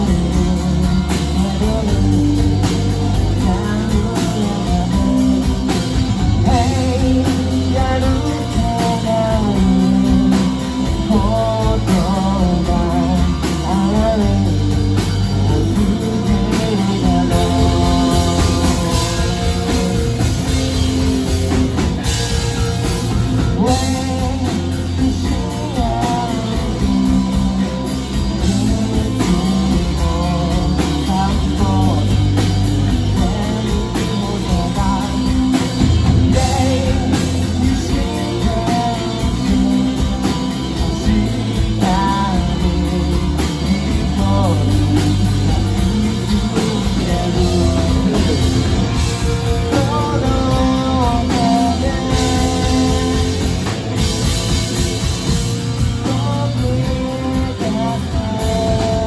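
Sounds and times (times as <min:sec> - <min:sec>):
bass guitar: 0:00.0 - 0:59.0
drum kit: 0:00.0 - 0:59.0
electric guitars: 0:00.0 - 0:59.0
man singing: 0:00.0 - 0:59.0.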